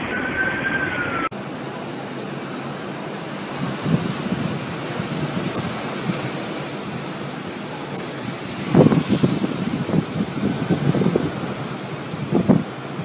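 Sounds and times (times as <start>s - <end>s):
strong storm wind: 0.0s - 13.0s
wind buffeting microphone: 1.3s - 13.0s.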